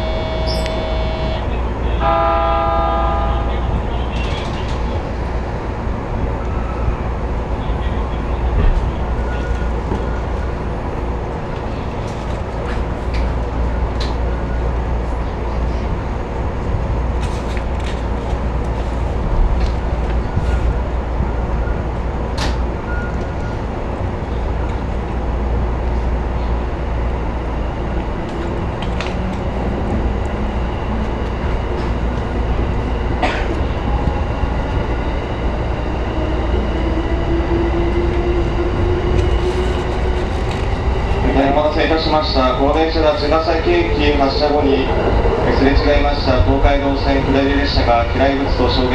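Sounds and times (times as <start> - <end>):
rail clicks: 0.0 - 14.6, 16.6 - 48.9
train wheels rumbling on rail: 0.0 - 48.9.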